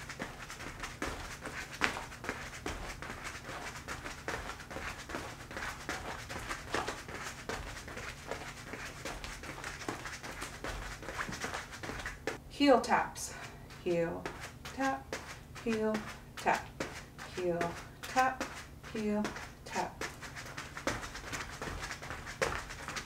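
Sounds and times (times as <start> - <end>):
soft footsteps on foam mat: 0.0 - 12.4, 13.3 - 23.0.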